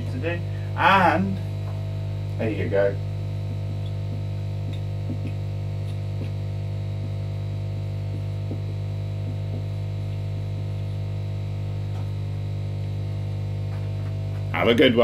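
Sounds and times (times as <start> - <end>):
electrical hum with buzz: 0.0 - 15.0.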